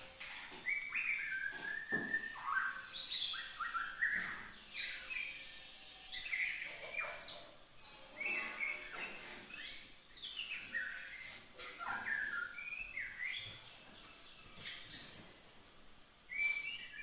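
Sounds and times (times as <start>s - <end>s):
young songbird singing: 0.6s - 15.3s.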